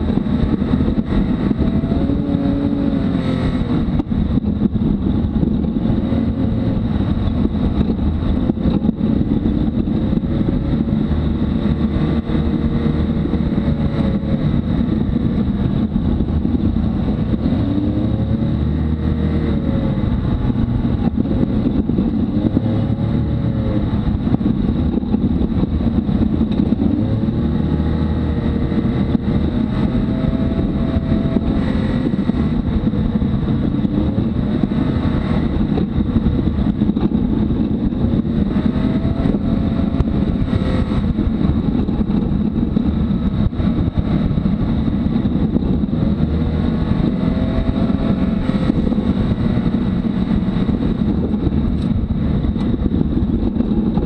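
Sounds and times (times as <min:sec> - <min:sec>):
engine revving: 0:00.0 - 0:54.0
vehicle rumbling on dirt trail: 0:00.0 - 0:54.0.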